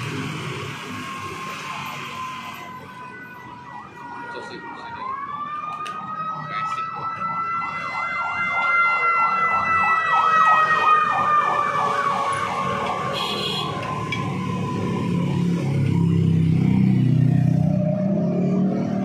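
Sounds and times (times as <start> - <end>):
siren wailing: 0.0 - 19.0
warbling siren tone: 0.1 - 19.0.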